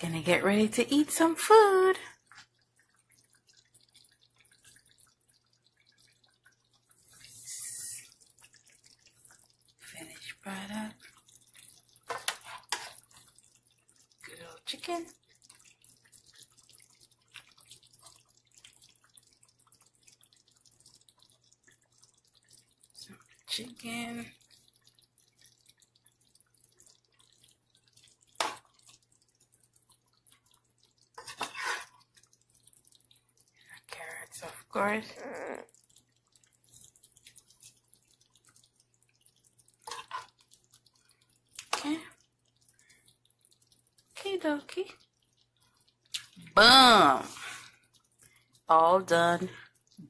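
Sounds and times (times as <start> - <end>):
gravy bubbling with pops: 0.0 - 50.0
wet drips: 0.0 - 50.0.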